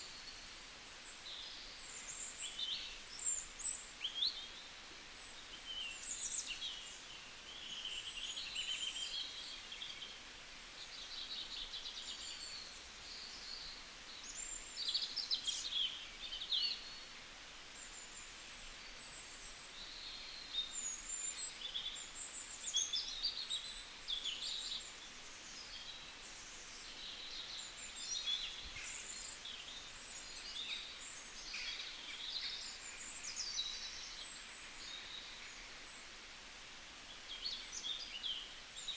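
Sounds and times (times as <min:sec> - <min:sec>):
faint background hiss: 0:00.0 - 0:38.9
songbirds chirping and trilling: 0:00.0 - 0:38.9.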